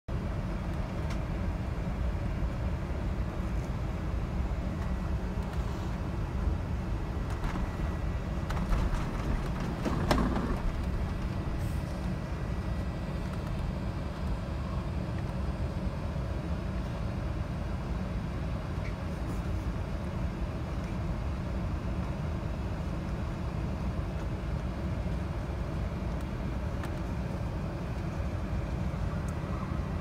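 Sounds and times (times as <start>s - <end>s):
low aircraft cabin rumble: 0.1s - 30.0s.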